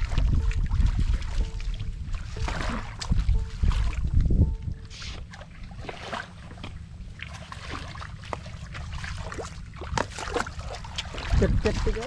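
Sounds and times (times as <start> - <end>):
footsteps wading through water: 0.0 - 12.0.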